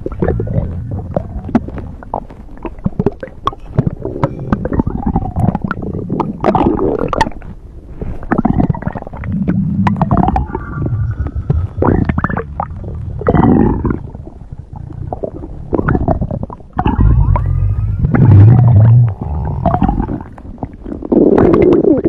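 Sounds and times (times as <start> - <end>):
stomach growling and gurgling: 0.0 - 22.0.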